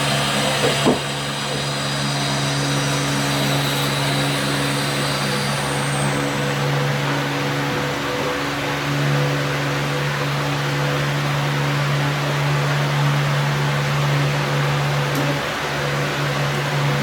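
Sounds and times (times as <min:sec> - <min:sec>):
motor running drone: 0:00.0 - 0:17.0.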